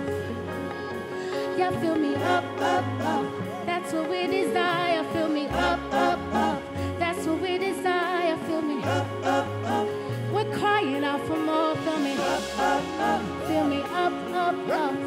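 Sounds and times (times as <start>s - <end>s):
live gospel band playing: 0.0s - 15.0s.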